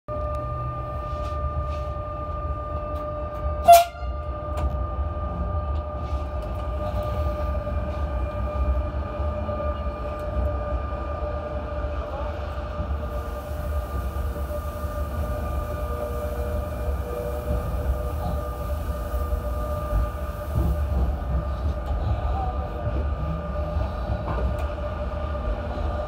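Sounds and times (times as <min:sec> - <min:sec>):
train constant whine: 0:00.1 - 0:26.0
train low rumble: 0:00.1 - 0:26.0.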